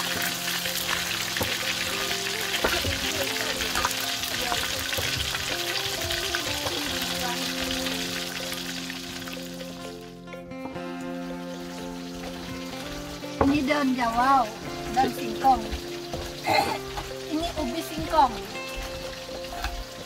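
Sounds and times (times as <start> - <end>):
fish sizzling in hot oil: 0.0 - 10.1, 10.8 - 20.0.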